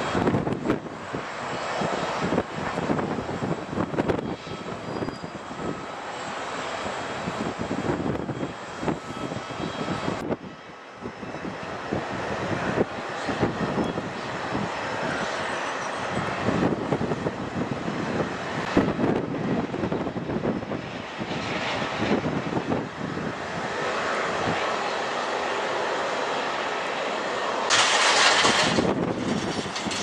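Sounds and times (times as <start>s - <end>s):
jet engine rushing: 0.0s - 30.0s.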